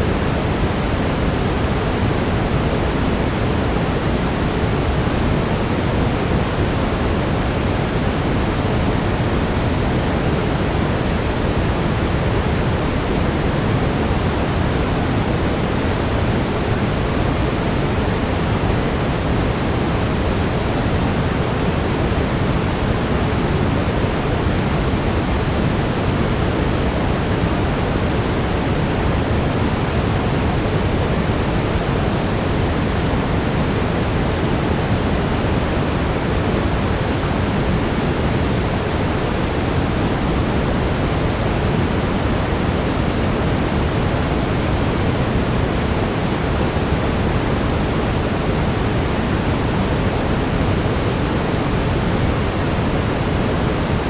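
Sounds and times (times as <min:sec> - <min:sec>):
brown noise: 0:00.0 - 0:54.0.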